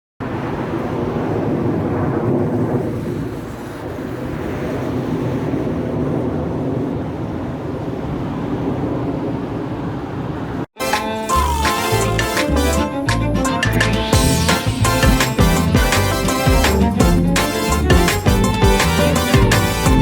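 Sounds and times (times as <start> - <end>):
fighter jets roaring: 0.2 - 20.0.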